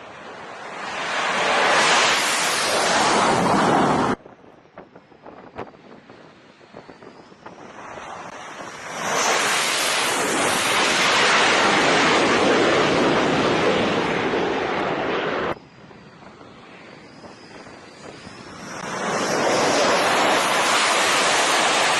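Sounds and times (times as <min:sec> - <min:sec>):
jet aircraft roar: 0:00.0 - 0:21.9.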